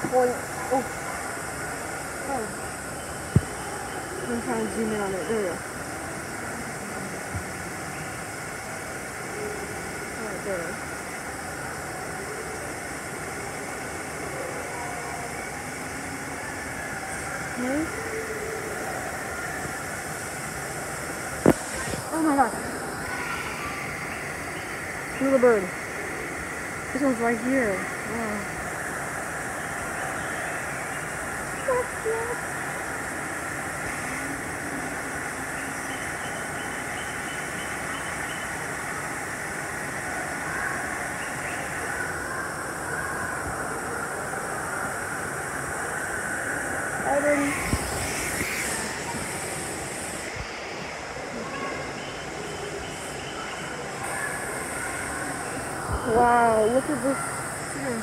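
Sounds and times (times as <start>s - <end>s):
steady rushing background noise: 0.0s - 58.0s.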